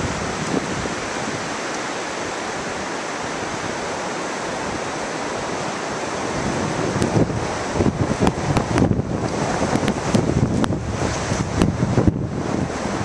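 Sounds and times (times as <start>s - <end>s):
wind hissing in trees: 0.0s - 13.0s.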